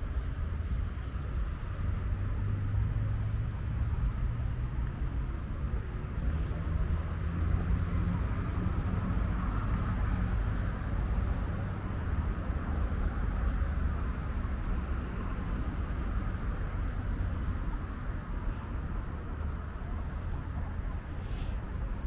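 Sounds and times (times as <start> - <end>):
faint distant voices: 0.0 - 22.0
low outdoor rumble: 0.0 - 22.0.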